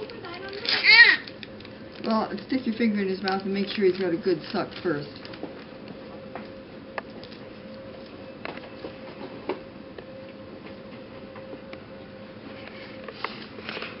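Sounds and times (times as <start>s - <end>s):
electrical equipment hum: 0.0s - 14.0s.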